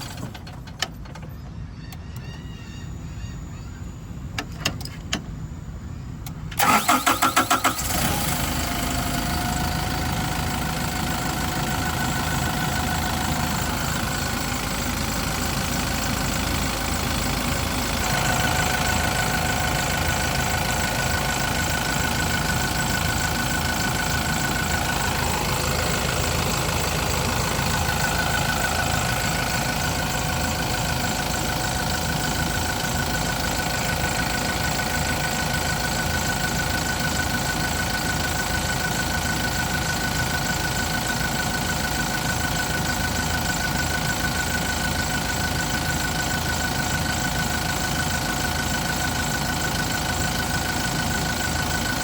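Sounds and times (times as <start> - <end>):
forklift engine idling: 0.0 - 52.0.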